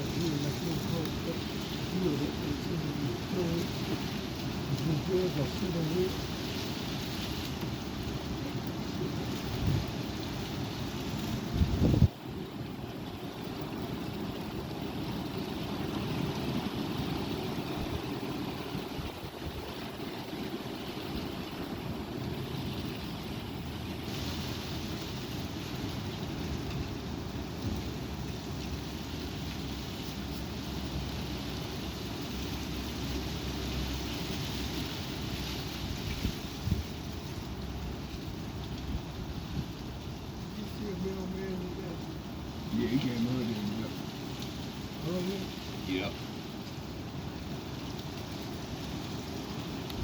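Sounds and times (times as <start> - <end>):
strong wind buffeting microphone: 0.0 - 50.0.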